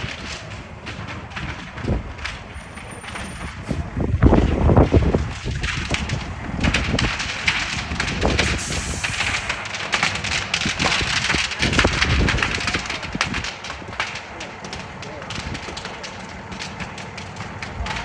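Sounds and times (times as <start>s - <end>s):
large fire crackling and popping: 0.0s - 18.0s.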